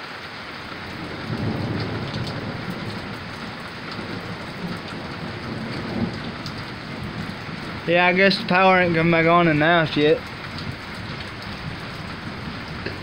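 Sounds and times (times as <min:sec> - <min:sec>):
heavy rain falling: 0:00.0 - 0:13.0
low thunder rumble: 0:00.6 - 0:13.0.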